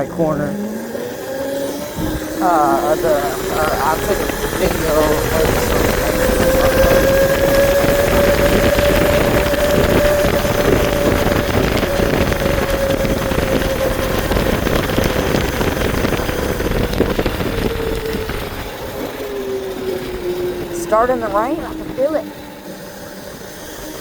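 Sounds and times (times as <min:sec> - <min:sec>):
motorbike engine running: 0:00.0 - 0:24.0
wind rushing over microphone: 0:00.0 - 0:24.0.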